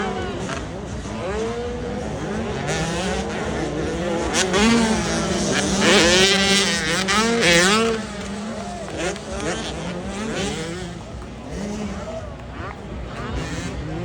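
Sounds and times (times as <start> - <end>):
motocross motorcycle engines revving: 0.0 - 14.0.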